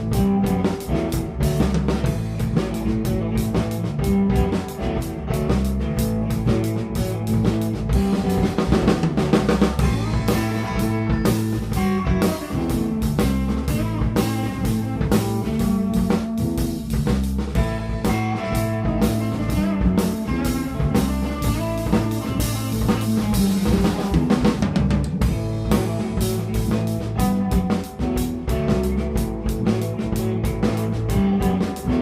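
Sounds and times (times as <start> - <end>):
drum kit snare and bass drum: 0.0 - 32.0
instrumental rock band: 0.0 - 32.0.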